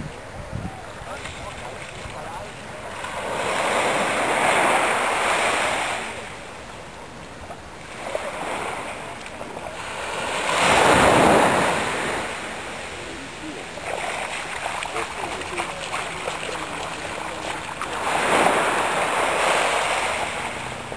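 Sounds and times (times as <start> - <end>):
small waves washing on sand: 0.0 - 20.9.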